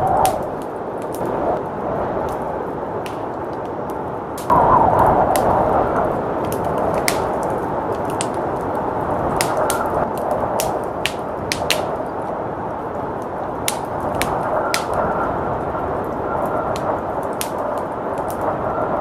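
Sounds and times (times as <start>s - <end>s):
blizzard wind rushing: 0.0s - 19.0s
wood fire crackling and popping: 0.0s - 19.0s.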